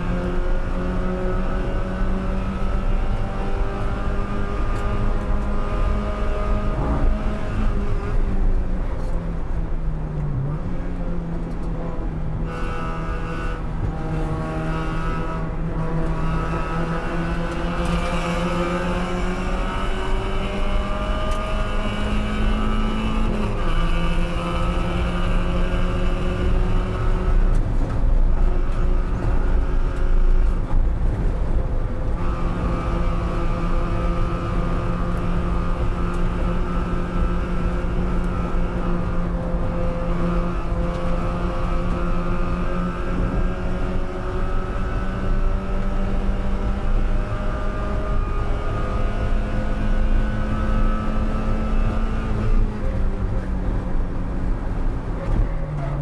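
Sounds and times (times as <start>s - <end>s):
racing car engine at high revs: 0.0s - 56.0s.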